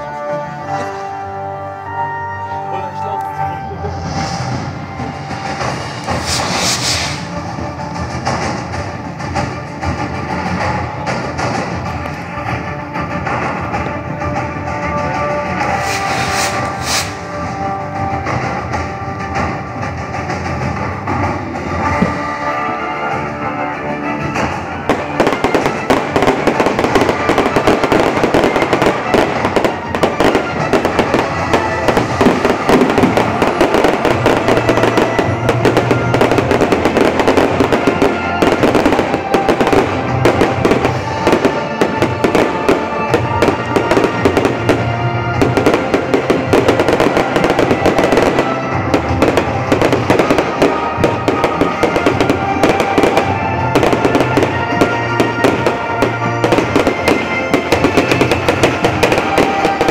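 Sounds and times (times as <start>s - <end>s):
show music: 0.0s - 59.9s
fireworks bursting and crackling: 3.2s - 59.9s.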